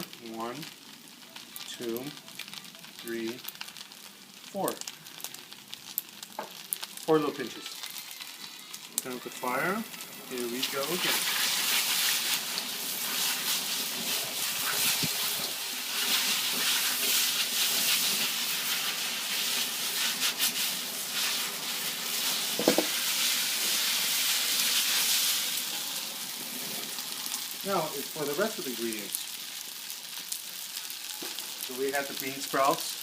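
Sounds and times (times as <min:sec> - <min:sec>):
noodles sizzling in a wok: 0:00.0 - 0:33.0.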